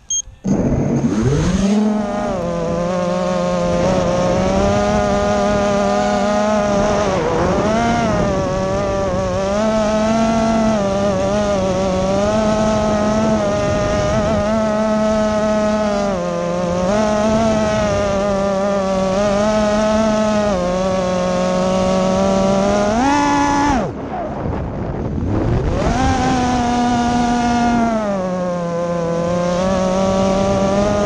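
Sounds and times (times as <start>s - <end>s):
quadcopter motors buzzing: 0.0s - 31.0s.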